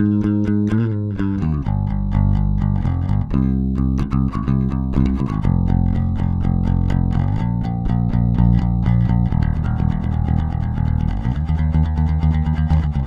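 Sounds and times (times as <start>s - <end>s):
electric bass plucked notes: 0.0s - 13.0s.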